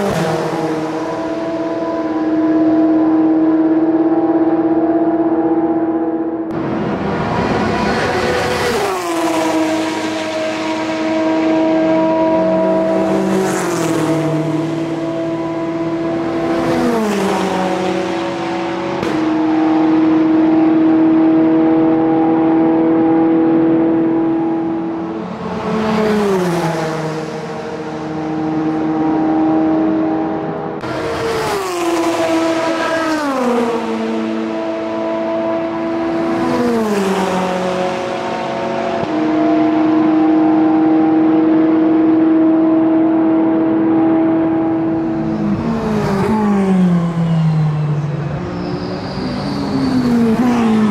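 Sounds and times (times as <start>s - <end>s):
race cars passing at full throttle: 0.0s - 50.9s.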